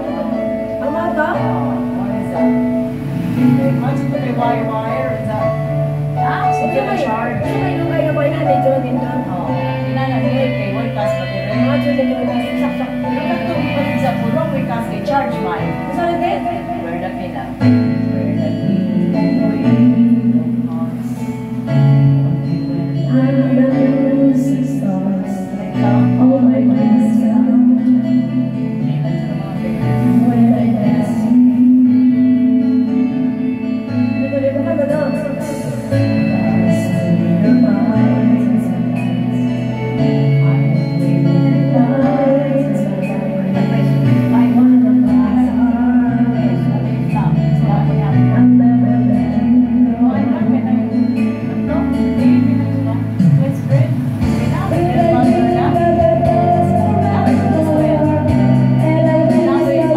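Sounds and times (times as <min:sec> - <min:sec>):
backing track with guitar: 0:00.0 - 0:59.9
woman singing karaoke: 0:00.0 - 0:59.9.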